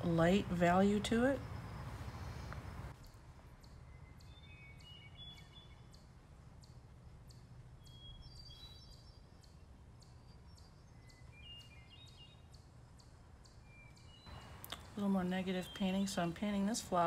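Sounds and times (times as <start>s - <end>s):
low background hum: 0.0s - 17.0s
bird chirps: 0.2s - 16.7s.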